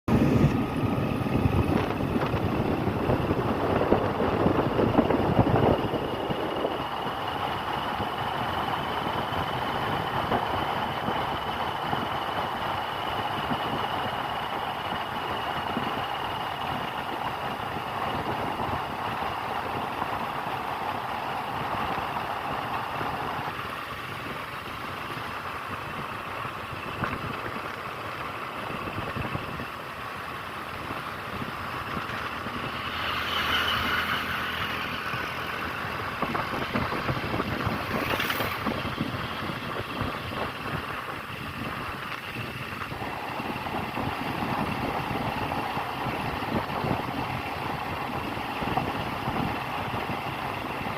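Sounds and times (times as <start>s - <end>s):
road noise: 0.0s - 50.9s
vehicle engine: 0.0s - 50.9s.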